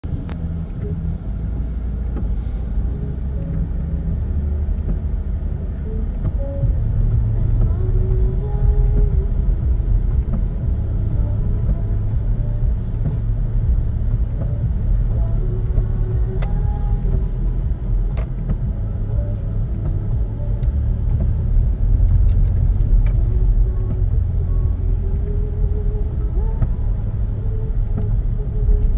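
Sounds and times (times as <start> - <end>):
car driving on wet road: 0.0 - 28.9.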